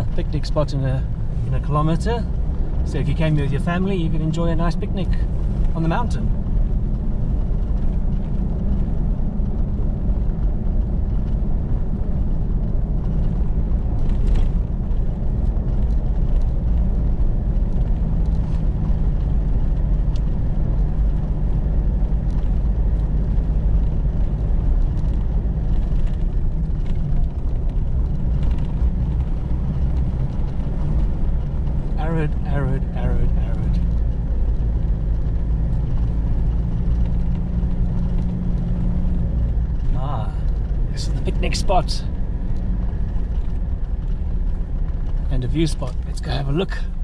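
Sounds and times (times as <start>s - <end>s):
engine and tyre rumble: 0.0s - 47.0s.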